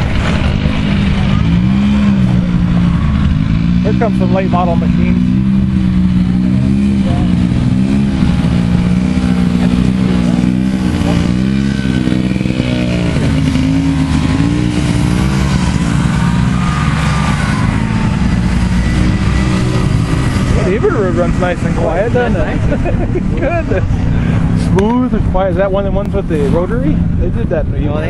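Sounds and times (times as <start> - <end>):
snowmobile engines riding past: 0.0 - 28.0.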